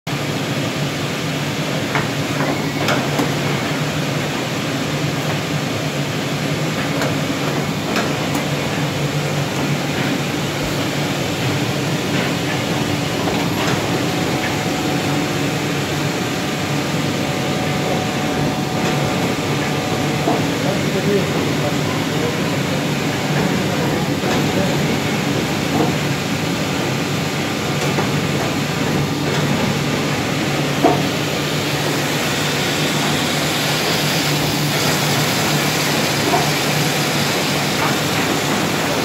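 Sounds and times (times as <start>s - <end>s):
machine mechanical hum: 0.1s - 39.0s.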